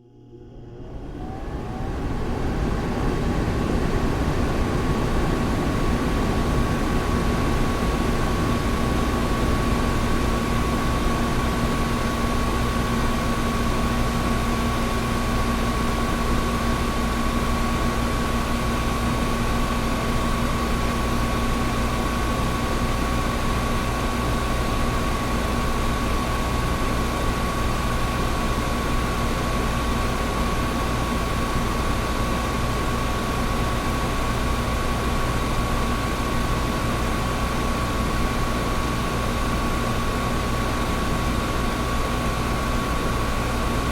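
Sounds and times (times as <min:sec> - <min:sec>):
air conditioner humming: 0:00.0 - 0:43.9.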